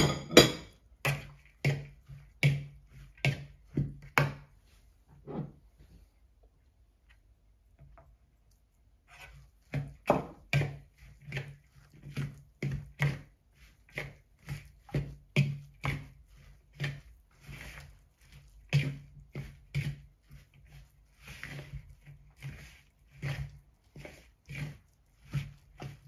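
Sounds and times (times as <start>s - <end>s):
fork scraping plastic bowl: 0.7s - 4.5s, 7.8s - 26.0s.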